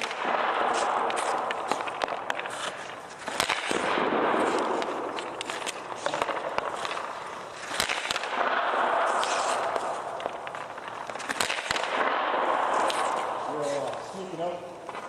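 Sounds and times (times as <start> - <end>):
hockey stick hitting puck: 0.0 - 15.0
skate blades scraping ice: 0.0 - 15.0.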